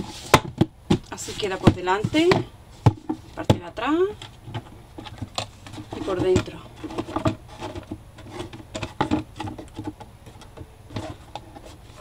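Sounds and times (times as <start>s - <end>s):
cardboard box handling taps and knocks: 0.0s - 3.8s, 4.5s - 11.8s.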